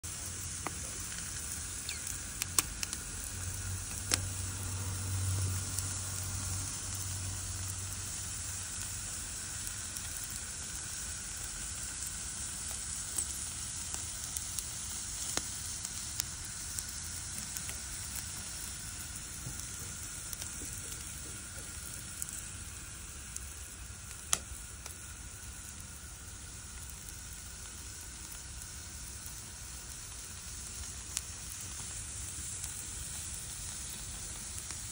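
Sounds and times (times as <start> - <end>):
sharp pops and crackles: 0.0 - 34.9
squid sizzling on a grill: 0.0 - 34.9.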